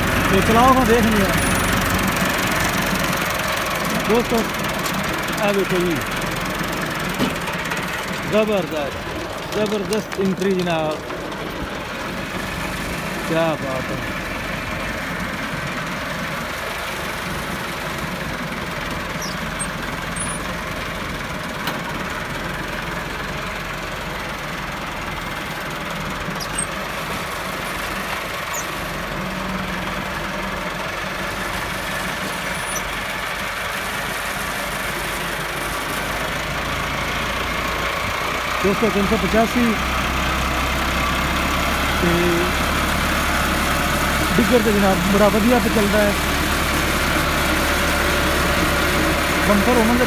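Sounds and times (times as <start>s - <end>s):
potato digger working noise: 0.0s - 50.0s
tractor diesel engine running: 0.0s - 50.0s.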